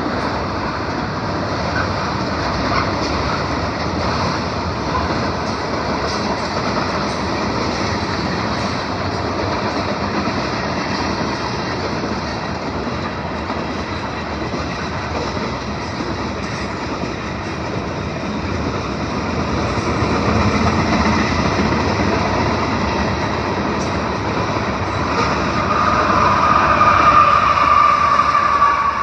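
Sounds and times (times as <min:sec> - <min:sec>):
train wheels rumbling and rattling: 0:00.0 - 0:29.0.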